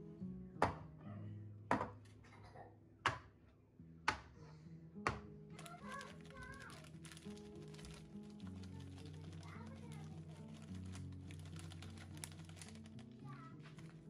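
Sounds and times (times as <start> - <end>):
soft background music: 0.0 - 3.1, 3.7 - 14.0.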